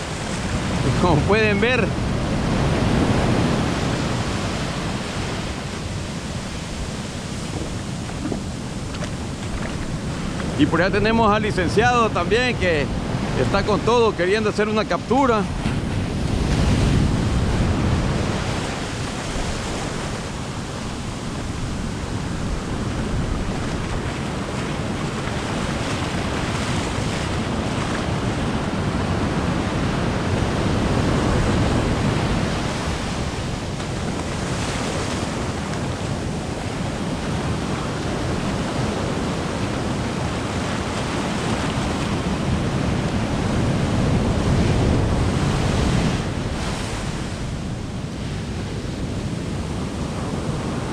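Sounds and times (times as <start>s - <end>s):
heavy surf breaking: 0.0s - 50.9s.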